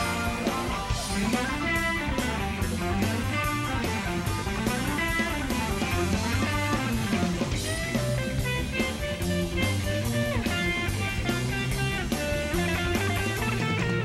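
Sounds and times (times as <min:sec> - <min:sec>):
drum kit beat: 0:00.0 - 0:14.0
electric bass line: 0:00.0 - 0:14.0
electric guitars: 0:00.0 - 0:14.0
keyboards: 0:00.0 - 0:14.0.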